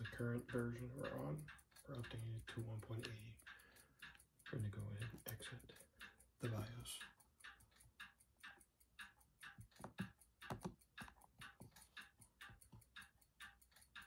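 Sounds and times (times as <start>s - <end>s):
faint even ticking: 0.0s - 14.0s.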